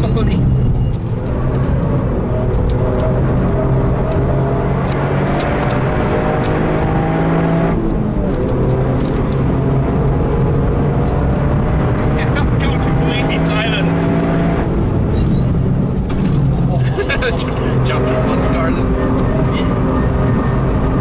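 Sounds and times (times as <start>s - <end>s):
car engine pulling hard: 0.0s - 21.0s.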